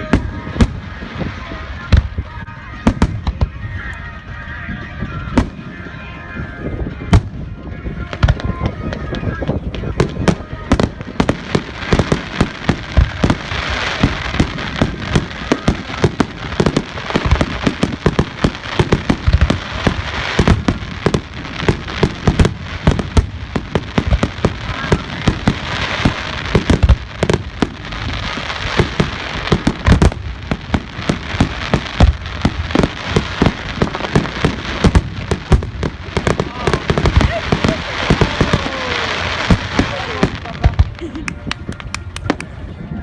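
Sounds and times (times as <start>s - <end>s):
fireworks bangs: 0.0s - 42.6s
fireworks crackling: 0.0s - 43.0s.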